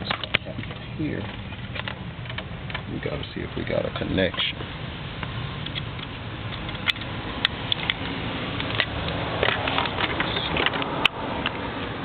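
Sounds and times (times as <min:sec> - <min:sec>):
wire handling crackles and clicks: 0:00.0 - 0:03.0, 0:05.2 - 0:11.9.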